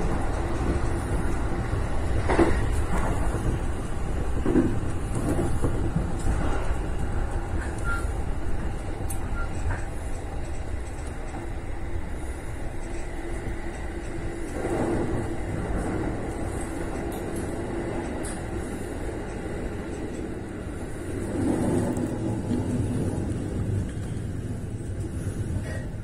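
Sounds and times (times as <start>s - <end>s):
track knocks: 0.0s - 25.9s
electric train rumbling: 0.0s - 26.0s.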